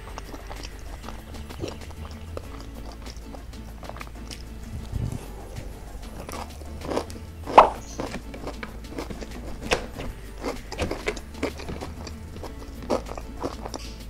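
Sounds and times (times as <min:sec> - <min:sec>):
chewing and mouth clicks: 0:00.0 - 0:14.0.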